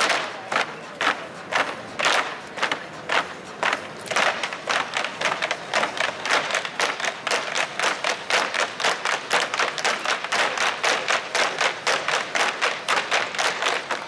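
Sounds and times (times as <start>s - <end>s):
tap shoes clicking: 0.0s - 14.0s.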